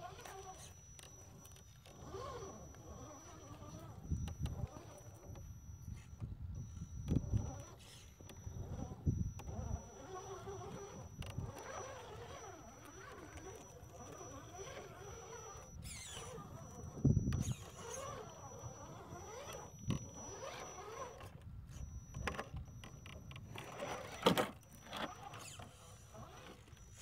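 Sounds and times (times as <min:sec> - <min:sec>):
electric motor and gears whining: 0:00.0 - 0:27.0.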